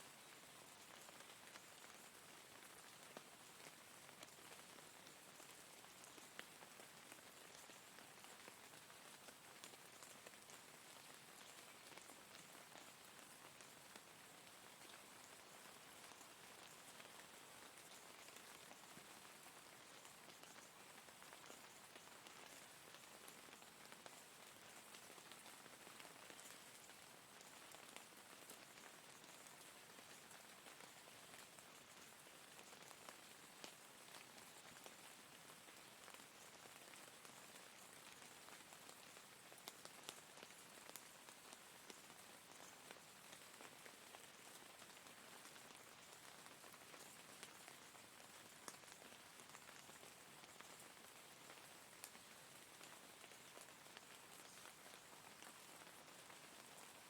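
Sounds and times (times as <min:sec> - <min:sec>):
faint steady rain: 0:00.0 - 0:57.0.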